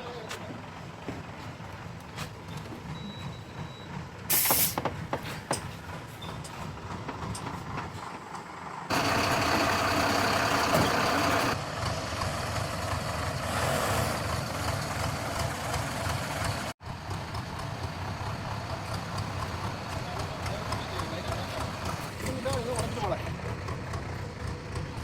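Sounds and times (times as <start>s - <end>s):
heavy diesel engine running: 0.1s - 25.0s.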